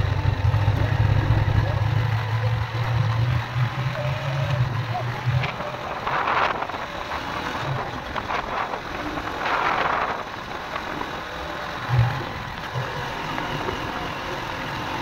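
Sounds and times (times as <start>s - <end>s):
motorcycle engine running: 0.0s - 15.0s
tyres on loose gravel: 0.0s - 15.0s.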